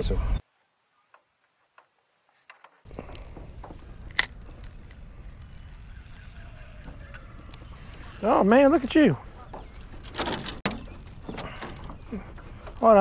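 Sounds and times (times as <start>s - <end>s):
low rush of outdoor noise: 0.0s - 13.0s.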